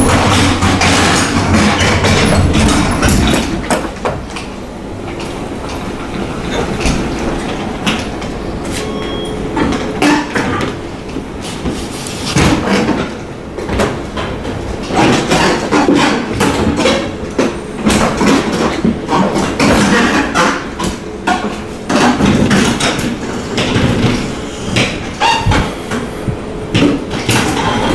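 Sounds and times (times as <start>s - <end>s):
elevator running with steady rumble: 0.0s - 27.9s.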